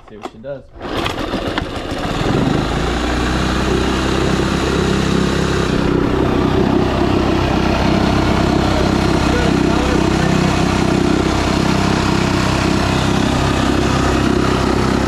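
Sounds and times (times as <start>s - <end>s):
outboard motor running: 0.8s - 15.0s
propeller spinning in water: 0.8s - 15.0s.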